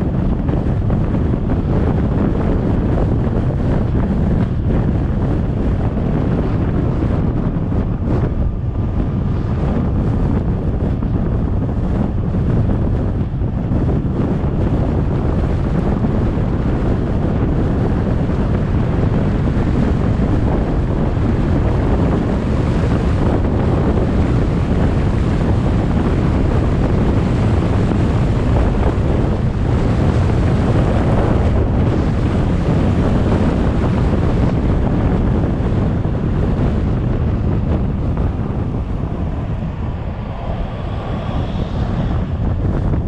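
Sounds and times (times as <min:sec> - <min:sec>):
road noise: 0:00.0 - 0:17.4, 0:18.0 - 0:43.0
wind rushing over microphone: 0:00.0 - 0:43.0.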